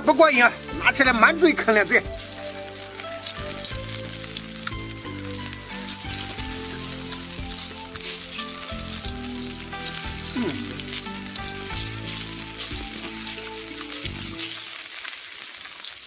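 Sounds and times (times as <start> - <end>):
soft background music: 0.0 - 15.0
oil sizzling on griddle: 0.0 - 16.0.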